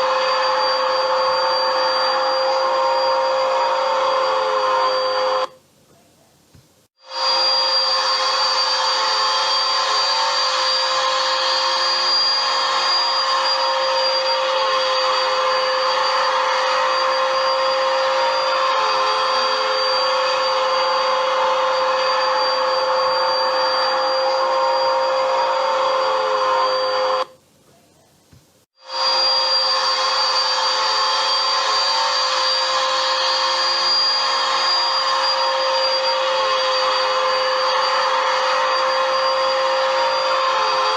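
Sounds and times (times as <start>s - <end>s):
vacuum cleaner running: 0.0s - 5.6s, 7.0s - 27.4s, 28.7s - 40.9s.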